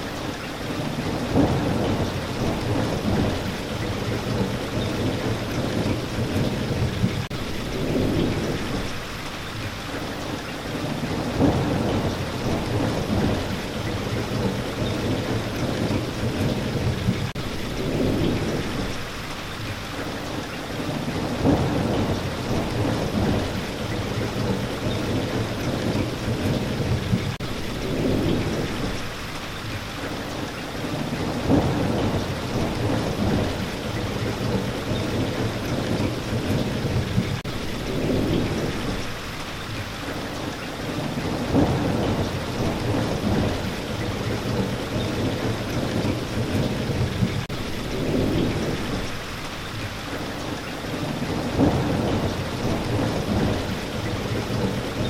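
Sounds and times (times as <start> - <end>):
steady rain: 0.0 - 55.0
low rolling thunder: 0.6 - 9.1, 10.2 - 19.3, 20.7 - 29.4, 30.7 - 55.0.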